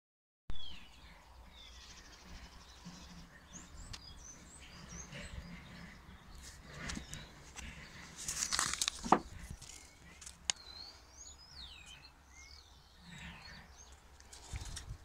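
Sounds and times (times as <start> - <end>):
birds chirping: 0.5 - 15.0.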